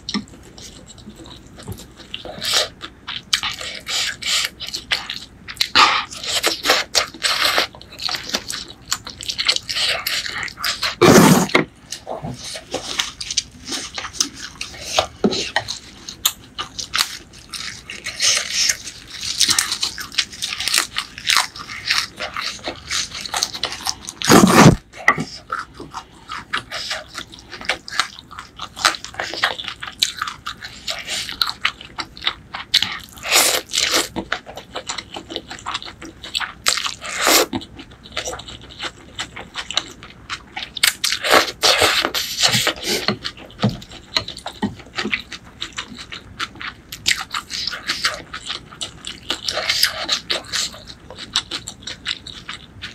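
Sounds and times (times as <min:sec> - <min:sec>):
wet chewing and crunching: 0:00.0 - 0:52.9.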